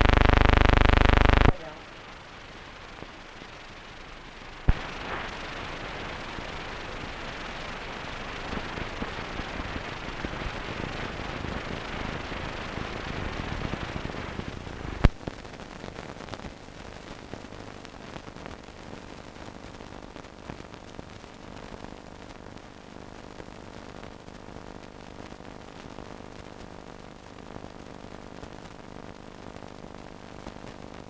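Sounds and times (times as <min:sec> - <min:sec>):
film soundtrack hiss and crackle: 0:00.0 - 0:31.0.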